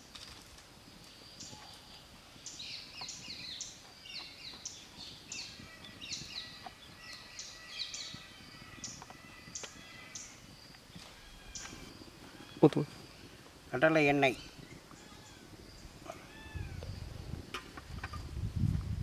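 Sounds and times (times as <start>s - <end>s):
small birds chirping: 0.9s - 18.4s.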